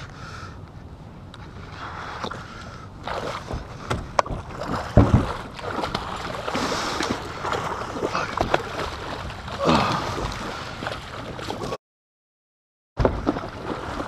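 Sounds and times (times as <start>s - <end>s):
water splashing around kayak: 1.5s - 11.8s, 13.0s - 14.0s.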